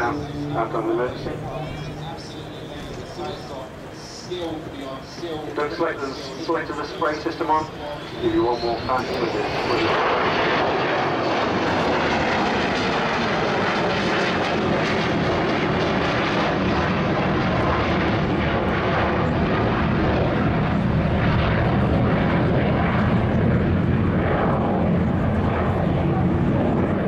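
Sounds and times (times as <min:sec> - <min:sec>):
jet plane passing: 0:00.0 - 0:27.0.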